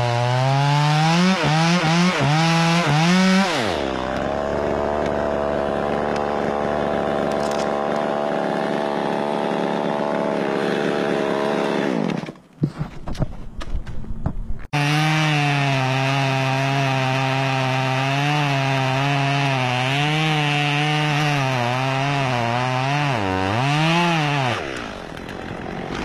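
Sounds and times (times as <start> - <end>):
chainsaw revving and cutting: 0.0 - 12.4, 14.7 - 26.0.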